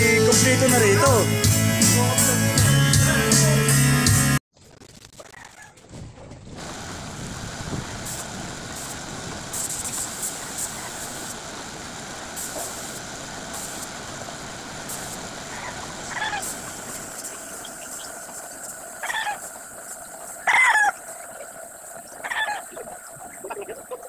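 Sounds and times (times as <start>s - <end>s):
paint spray gun hissing: 0.0s - 2.4s, 6.6s - 24.0s.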